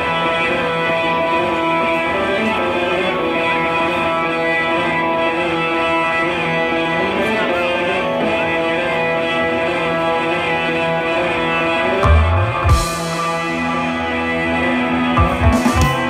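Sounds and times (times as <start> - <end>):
droning electric guitar chords: 0.0 - 16.0.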